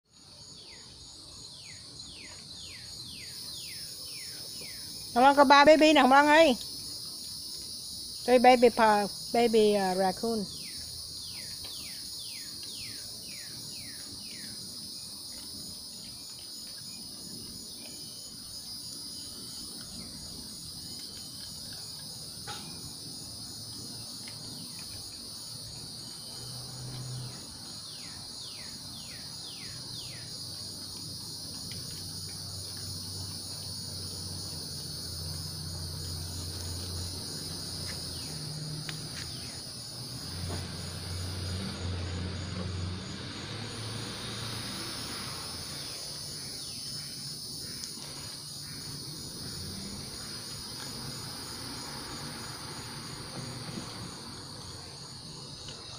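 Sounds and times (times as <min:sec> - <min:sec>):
insects trilling: 0:00.1 - 0:55.9.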